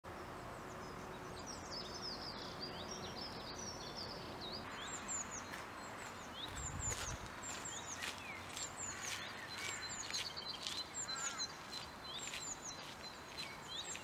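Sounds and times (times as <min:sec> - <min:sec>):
outdoor background hiss: 0:00.1 - 0:14.0
songbirds chirping: 0:00.1 - 0:14.0.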